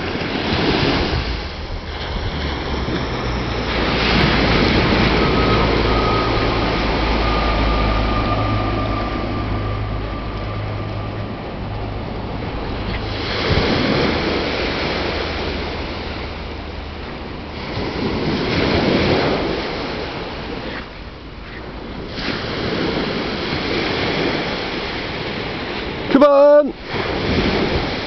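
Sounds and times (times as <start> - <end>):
rushing wind: 0.0 - 28.0
surf: 0.0 - 28.0
wind buffeting microphone: 0.0 - 28.0.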